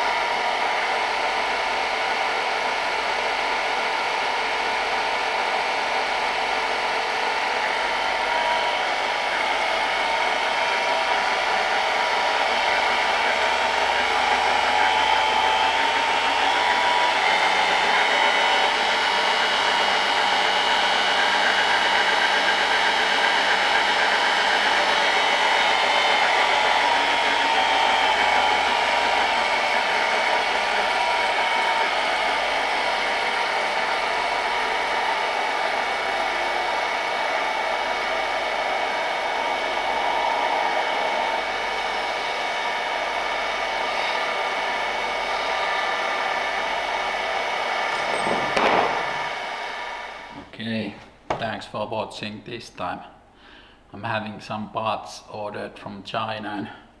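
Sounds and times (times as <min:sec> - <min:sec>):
electric motor whine: 0:00.0 - 0:50.5.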